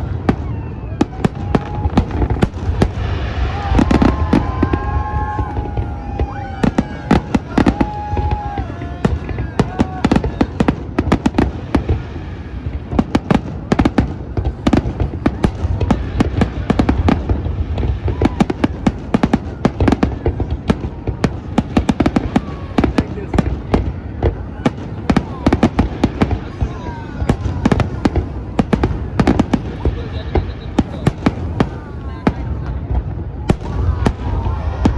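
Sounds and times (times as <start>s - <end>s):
fireworks bangs and crackles: 0.0s - 34.9s
fireworks whistling: 0.0s - 34.9s.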